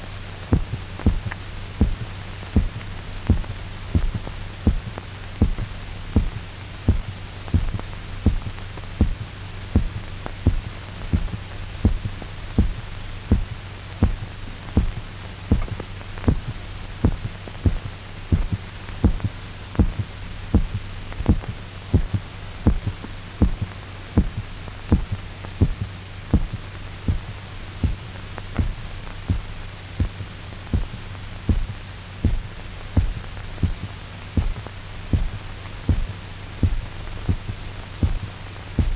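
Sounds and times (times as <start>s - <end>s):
steady low hum: 0.0s - 38.9s
dog heartbeat: 0.5s - 38.9s.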